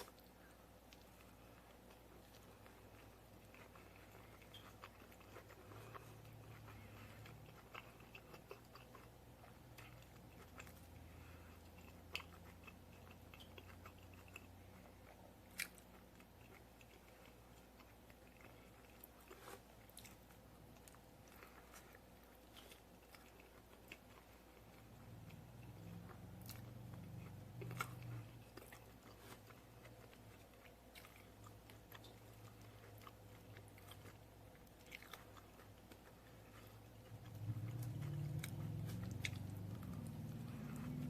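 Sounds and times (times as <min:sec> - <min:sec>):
chewing crunchy tacos: 0:00.0 - 0:41.0.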